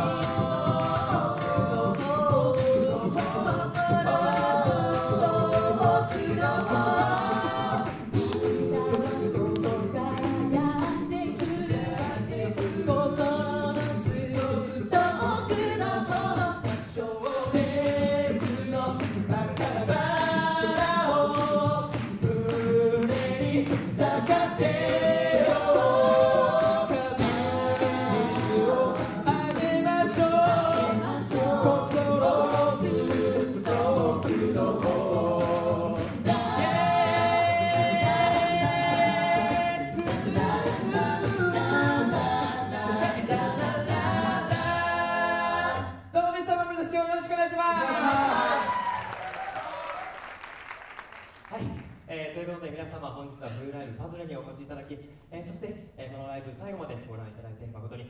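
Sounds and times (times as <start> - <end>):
a cappella group singing: 0.0 - 49.8
vocal percussion beat: 0.0 - 50.2.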